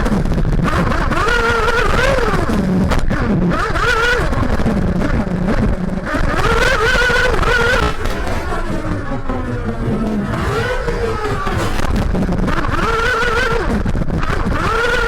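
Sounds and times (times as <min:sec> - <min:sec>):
model car engine revving: 0:00.0 - 0:15.0.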